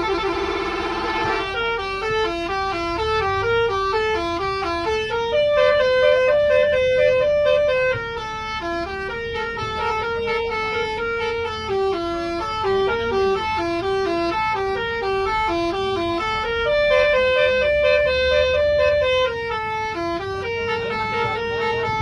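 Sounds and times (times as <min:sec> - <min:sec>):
bus musical horn melody: 0:00.0 - 0:22.0
low engine rumble: 0:00.0 - 0:22.0.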